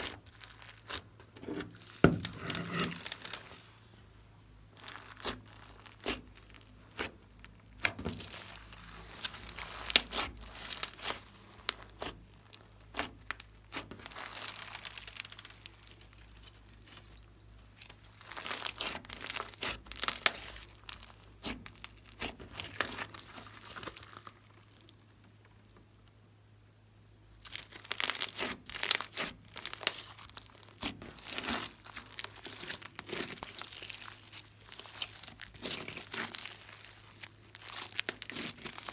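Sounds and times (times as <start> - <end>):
slime crackling and popping: 0.0 - 4.0, 4.7 - 26.0, 27.4 - 38.9.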